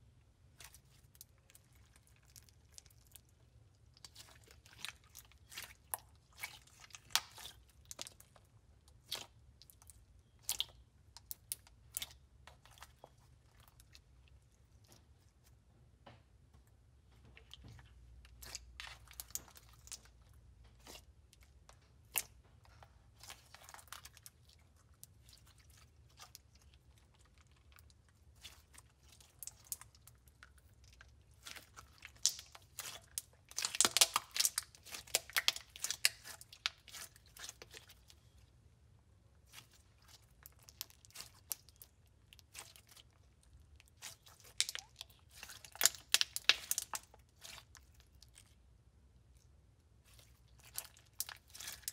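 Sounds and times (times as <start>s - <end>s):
slime crackling and crunching: 0.5s - 15.1s, 17.4s - 38.4s, 39.4s - 48.6s, 50.0s - 51.9s.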